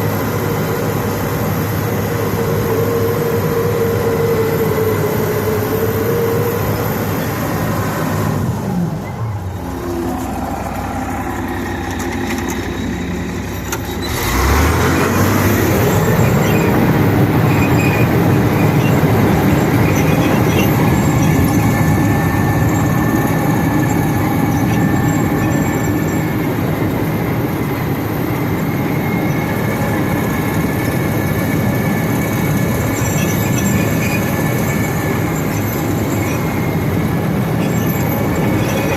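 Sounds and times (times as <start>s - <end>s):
bulldozer engine and tracks clattering: 0.0s - 38.9s.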